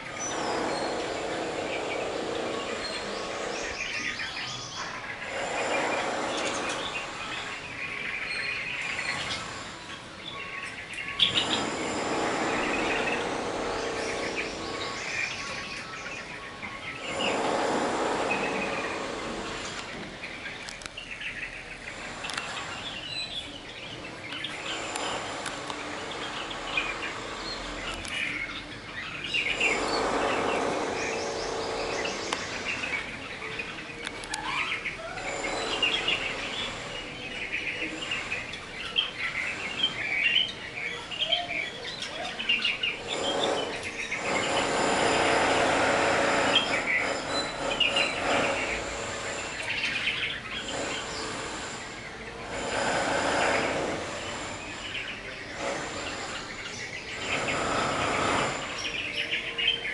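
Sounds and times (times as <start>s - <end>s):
birds chirping: 0.0s - 59.9s
broad rushing noise: 0.0s - 59.9s.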